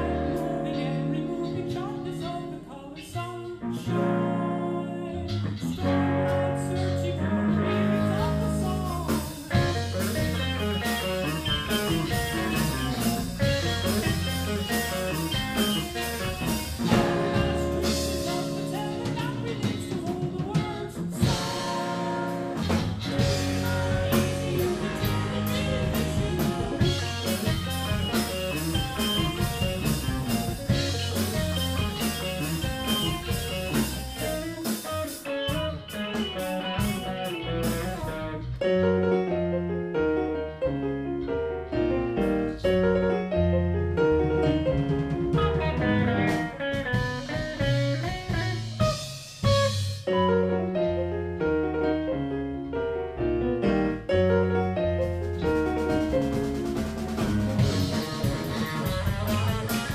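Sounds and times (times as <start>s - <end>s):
rock band playing: 0.0s - 2.7s, 3.5s - 52.8s, 53.4s - 59.9s
drums: 0.0s - 39.5s, 42.0s - 52.2s, 53.6s - 59.9s.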